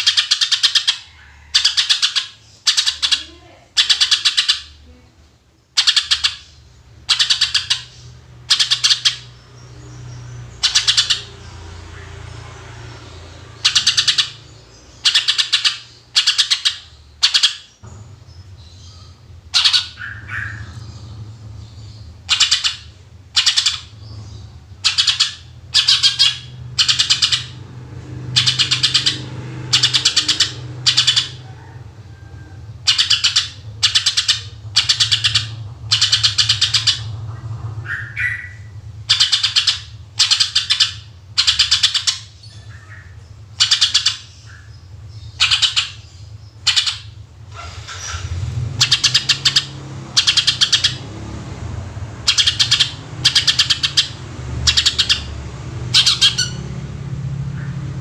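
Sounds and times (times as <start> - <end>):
bird singing trilled bursts: 0.0 - 4.8, 5.6 - 31.8, 32.4 - 37.2, 37.8 - 57.8.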